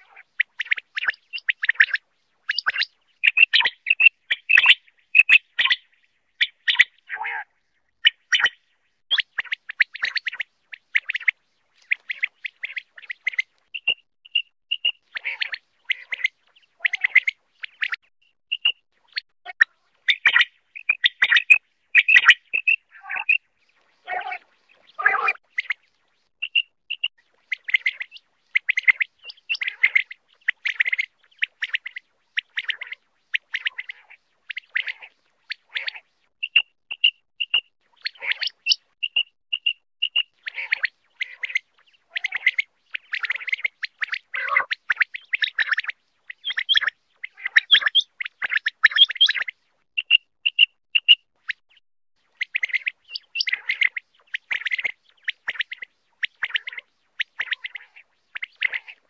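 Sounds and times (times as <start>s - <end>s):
quail calling: 0.0s - 7.5s, 14.7s - 23.4s, 24.0s - 25.8s, 26.4s - 51.2s, 52.3s - 59.0s.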